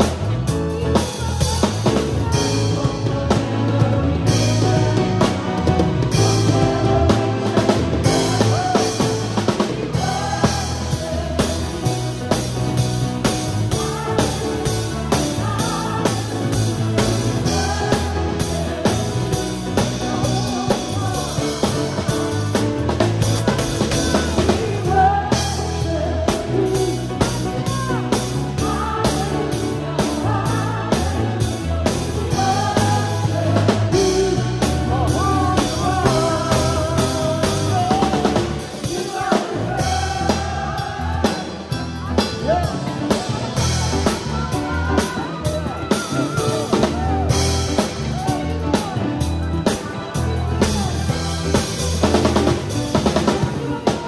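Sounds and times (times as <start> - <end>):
band playing: 0.0 - 54.0
choir and singers singing: 0.0 - 54.0
drum kit: 0.0 - 54.0.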